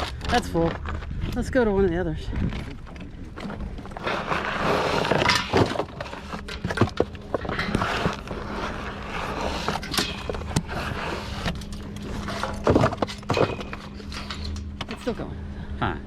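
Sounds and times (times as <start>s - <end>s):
fishing gear clattering and rustling: 0.0s - 8.3s, 9.4s - 15.2s.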